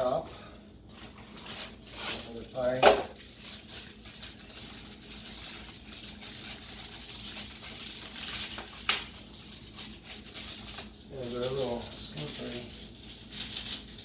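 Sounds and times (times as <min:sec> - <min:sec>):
plastic wrapper crinkling: 0:00.8 - 0:14.0.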